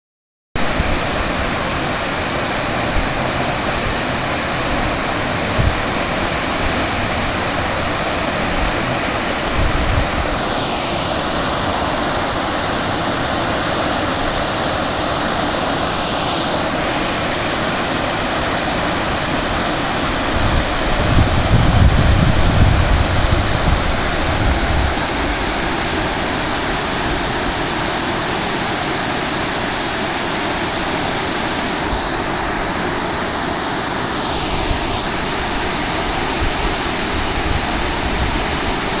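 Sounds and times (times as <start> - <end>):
river rushing: 0.6 - 39.0.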